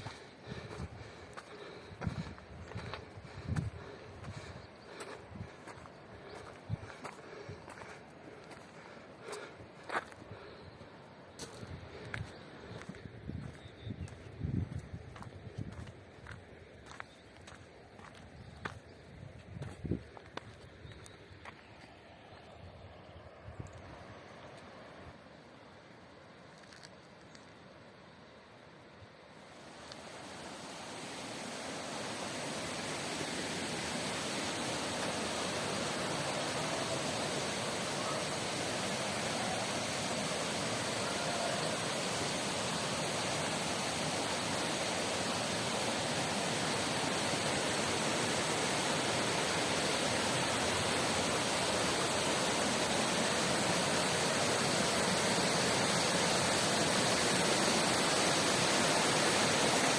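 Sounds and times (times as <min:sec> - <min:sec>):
river and waterfall rushing: 0:00.0 - 0:13.6, 0:23.6 - 0:59.9.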